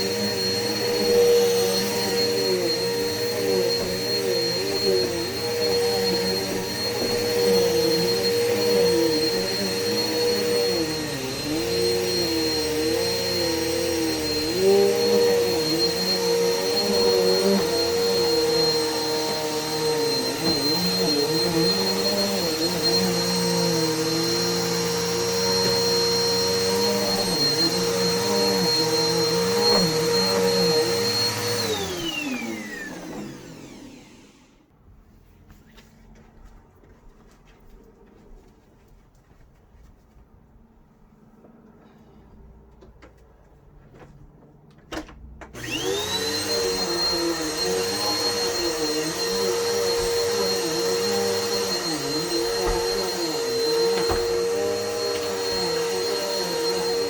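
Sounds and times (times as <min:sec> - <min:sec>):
vacuum cleaner motor whine: 0:00.0 - 0:34.7, 0:45.4 - 0:57.0.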